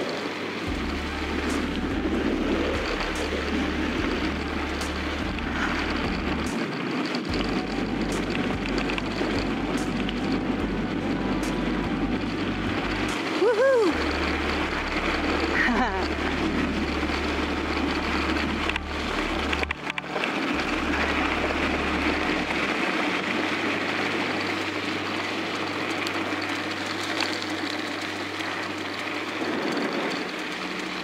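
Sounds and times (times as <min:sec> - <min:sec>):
bike tyres rolling on dirt: 0:00.0 - 0:31.0
wind rushing over microphone: 0:00.0 - 0:31.0.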